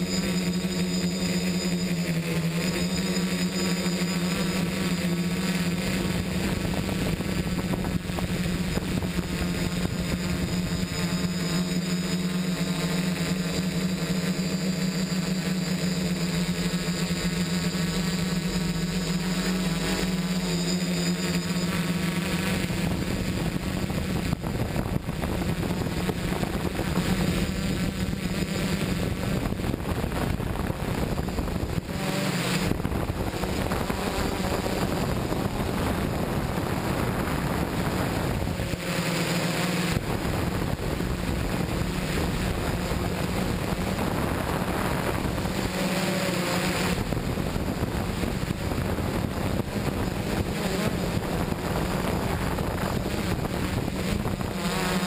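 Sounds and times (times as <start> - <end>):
drone propellers whirring: 0.0 - 55.0
wind on microphone: 4.6 - 15.4, 18.4 - 55.0.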